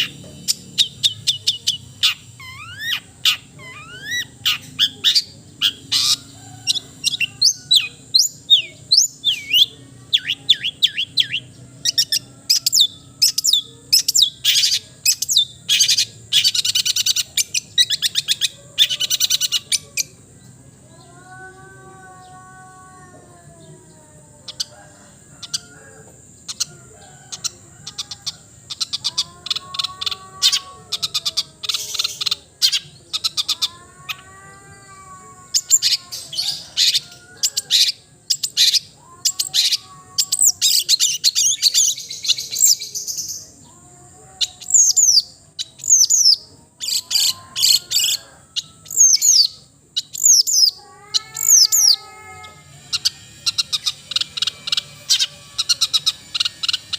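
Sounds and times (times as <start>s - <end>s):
shrike singing mimicking song: 0.0s - 56.9s.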